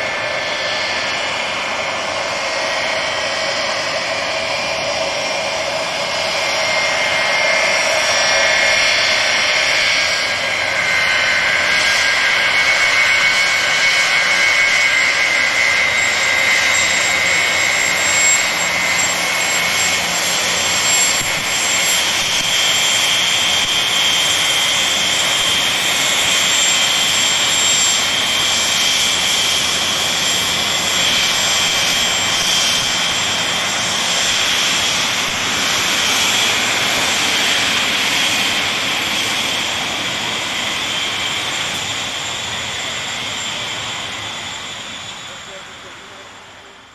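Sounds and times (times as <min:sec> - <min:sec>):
high engine whine: 0:00.0 - 0:46.9
jet engines rushing: 0:00.0 - 0:46.9.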